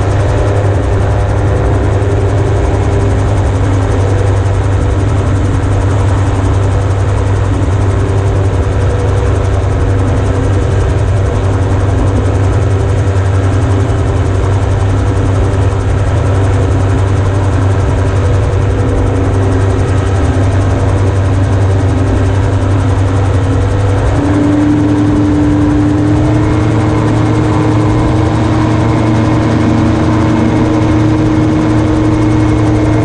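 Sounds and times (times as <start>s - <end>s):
gyroplane engine droning: 0.0s - 33.0s.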